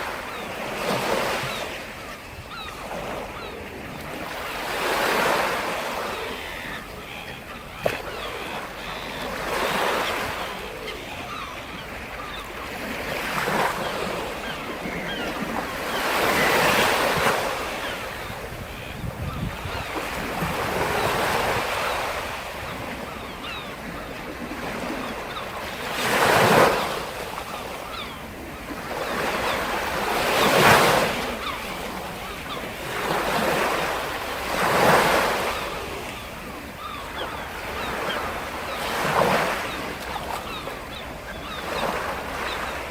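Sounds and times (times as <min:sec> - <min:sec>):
waves breaking on shore: 0:00.0 - 0:42.9.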